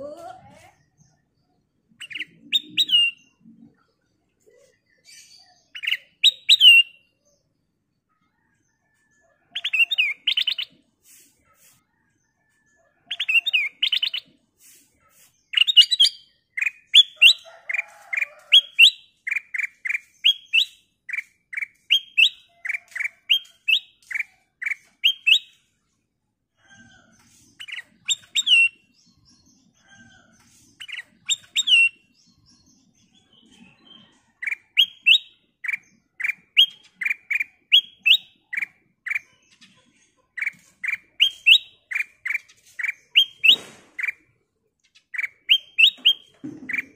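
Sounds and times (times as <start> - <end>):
bird chirping: 0.5 - 8.4, 9.0 - 10.8, 13.1 - 14.4, 15.1 - 25.8, 26.6 - 46.9.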